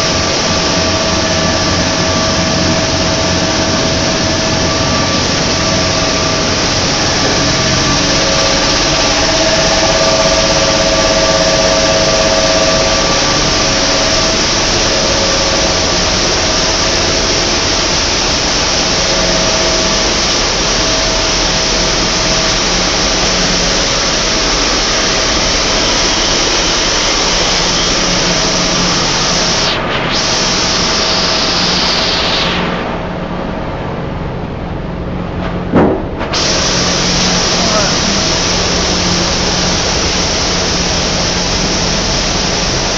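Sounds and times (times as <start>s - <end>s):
machinery hiss and rumble: 0.0s - 42.9s.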